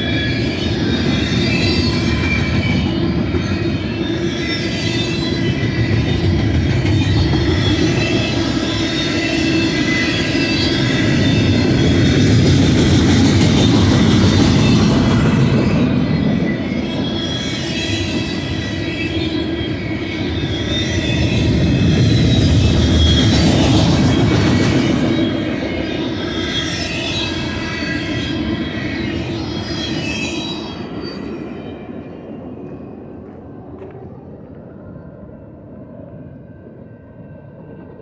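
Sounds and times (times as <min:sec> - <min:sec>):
high wheel squeal: 0:00.0 - 0:33.1
train wheels rumbling on rail: 0:00.0 - 0:38.0.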